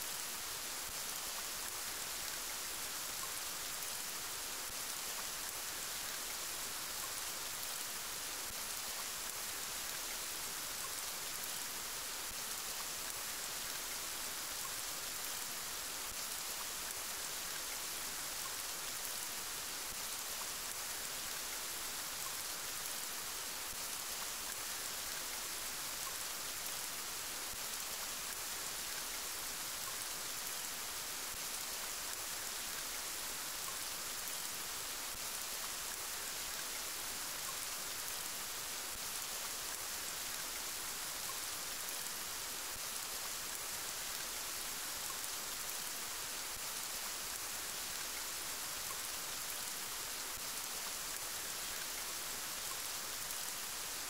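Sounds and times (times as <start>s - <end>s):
steady rain hissing: 0.0s - 54.0s.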